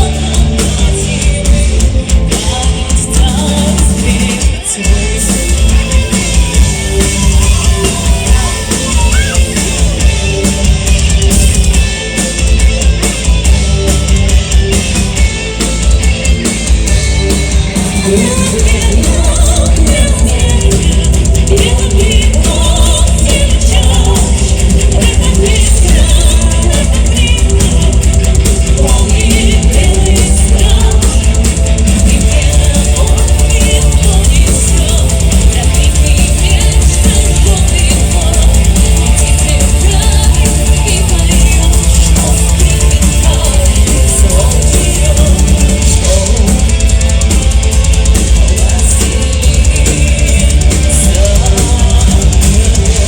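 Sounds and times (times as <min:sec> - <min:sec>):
bass drum: 0:00.0 - 0:53.0
metal band playing live: 0:00.0 - 0:53.0.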